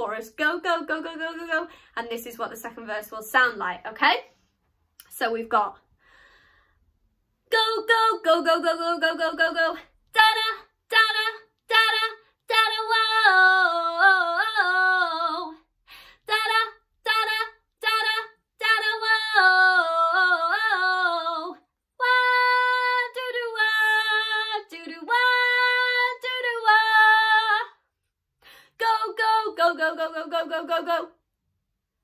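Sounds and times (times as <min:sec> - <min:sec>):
woman singing wordless vocals: 0:00.0 - 0:03.9, 0:07.4 - 0:27.8, 0:28.6 - 0:31.2.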